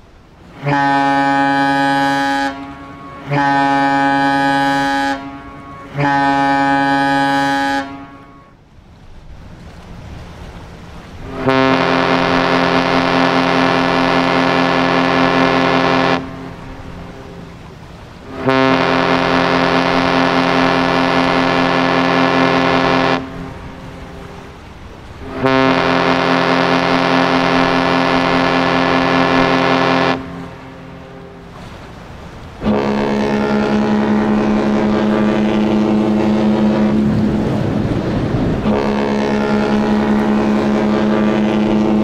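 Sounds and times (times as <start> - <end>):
ship horn blasts: 0.4 - 8.6, 10.8 - 42.0.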